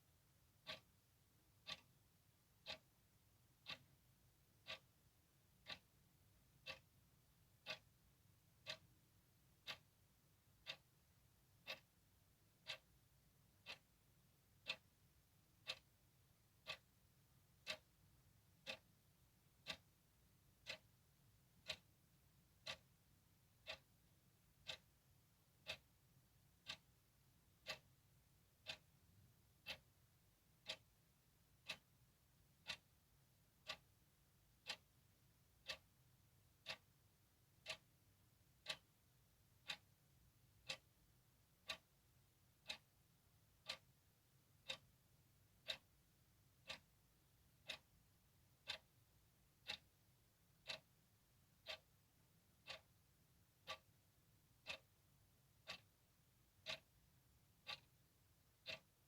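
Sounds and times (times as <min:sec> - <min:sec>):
clock ticking: 0:00.1 - 0:59.0.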